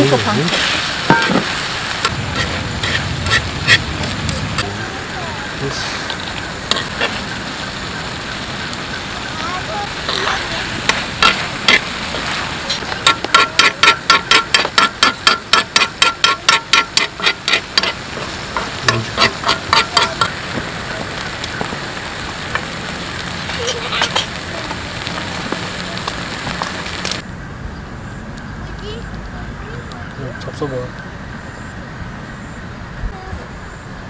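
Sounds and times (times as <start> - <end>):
stir-fry sizzling on a pan: 0.0 - 27.3.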